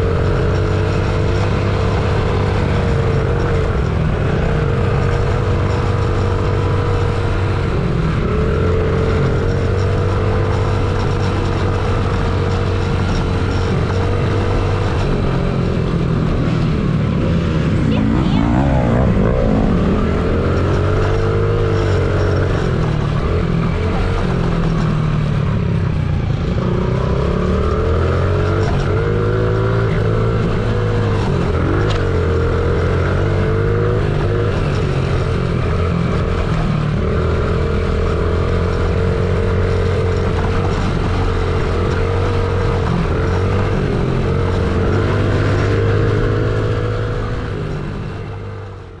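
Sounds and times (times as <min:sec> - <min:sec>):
small motorcycle engine revving: 0:00.0 - 0:49.0.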